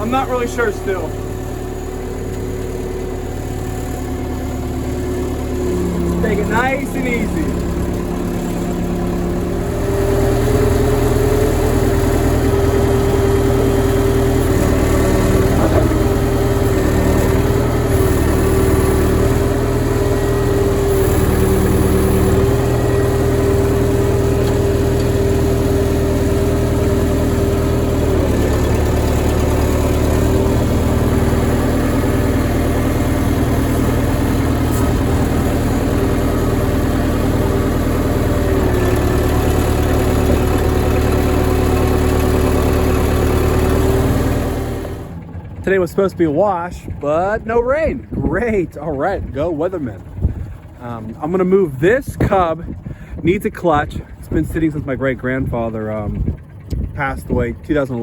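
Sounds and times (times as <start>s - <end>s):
farm machinery engine running: 0.0s - 58.0s
steady whine: 0.0s - 58.0s.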